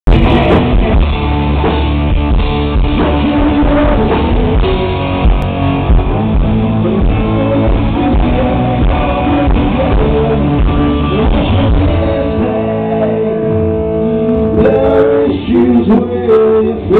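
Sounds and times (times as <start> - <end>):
man singing lead vocal: 0.0 - 1.4, 2.7 - 16.9
drum kit: 0.0 - 15.8
electric guitar: 0.0 - 16.9.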